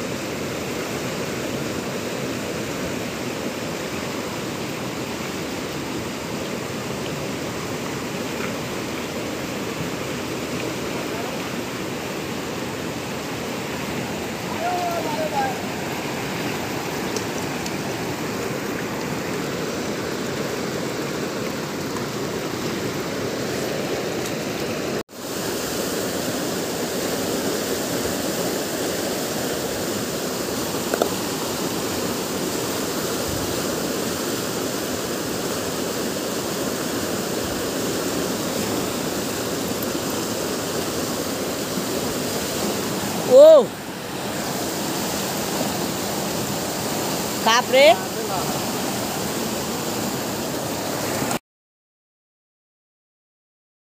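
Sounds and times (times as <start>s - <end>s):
river rushing over boulders: 0.0s - 51.4s.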